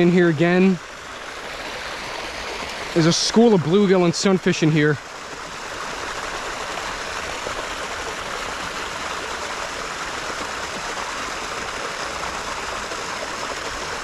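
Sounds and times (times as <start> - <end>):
creek water splashing over fall: 0.0 - 14.0.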